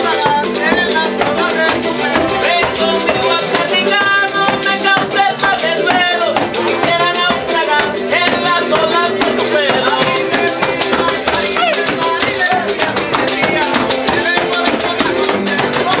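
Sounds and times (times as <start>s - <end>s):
jaranas strummed: 0.0s - 16.0s
man singing: 0.0s - 16.0s.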